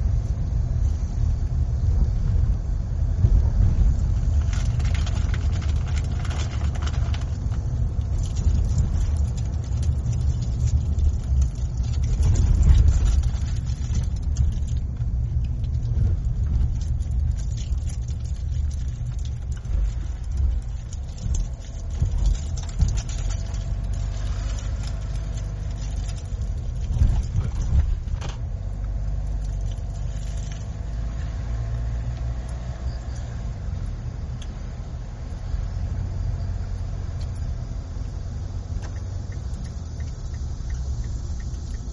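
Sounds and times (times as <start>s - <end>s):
car tyres and engine rumble: 0.0s - 41.9s.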